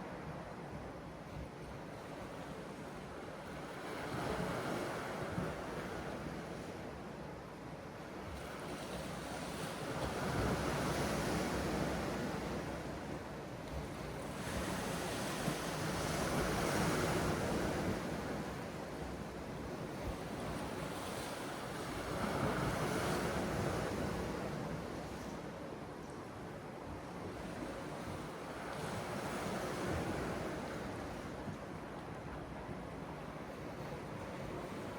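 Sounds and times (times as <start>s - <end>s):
wind: 0.0s - 34.9s.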